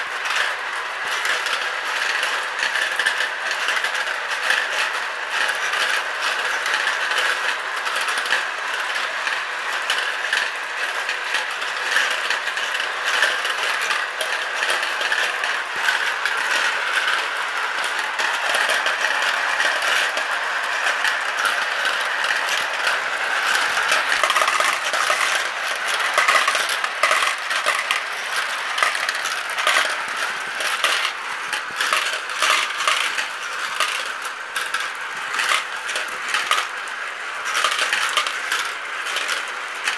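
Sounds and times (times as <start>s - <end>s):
marbles clattering in plastic bowls: 1.2s - 39.9s.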